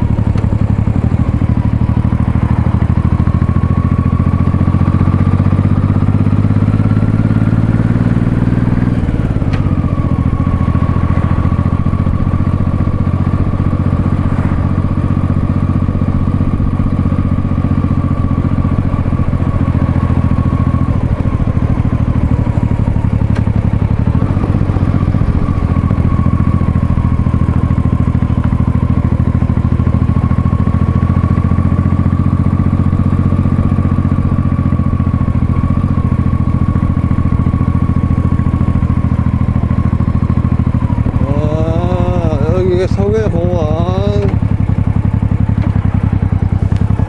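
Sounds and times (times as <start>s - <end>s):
motorcycle engine cruising: 0.0s - 47.0s.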